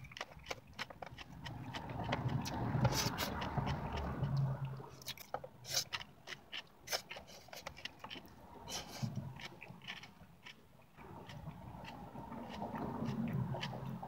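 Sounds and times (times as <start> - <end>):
chewing and lip-smacking: 0.0 - 14.0.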